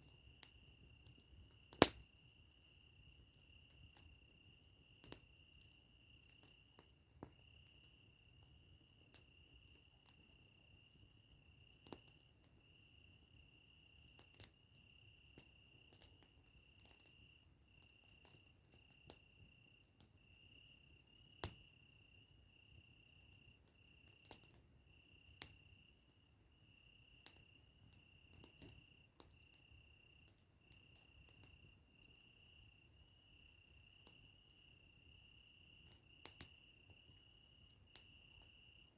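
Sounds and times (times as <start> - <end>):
campfire crackling: 0.0 - 38.9
cricket trilling: 0.0 - 38.9.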